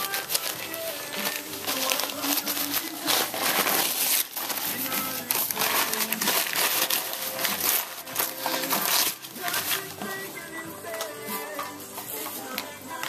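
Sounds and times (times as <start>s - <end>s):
music playing: 0.0s - 13.0s.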